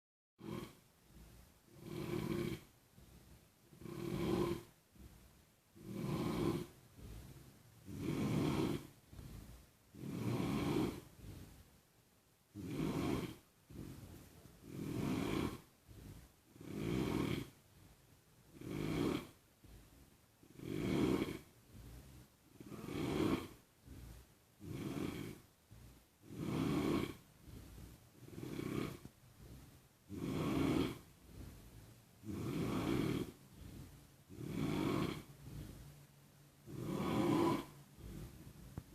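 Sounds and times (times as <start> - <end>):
person snoring: 0.4 - 0.9, 1.7 - 3.1, 3.7 - 5.1, 5.7 - 11.6, 12.5 - 17.9, 18.5 - 25.5, 26.2 - 36.0, 36.6 - 38.9.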